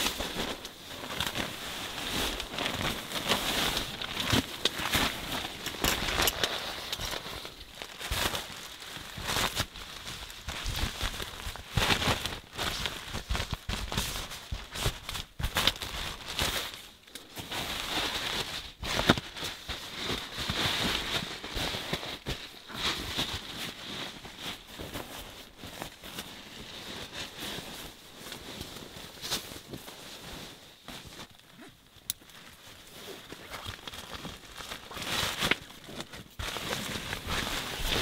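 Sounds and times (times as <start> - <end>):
bedding rustling and crinkling: 0.0 - 38.0.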